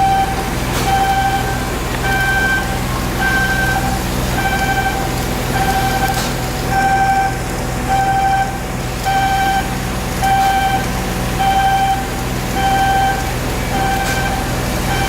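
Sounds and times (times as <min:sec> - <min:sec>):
electronic warning beeps: 0:00.0 - 0:15.0
low machinery hum: 0:00.0 - 0:15.0.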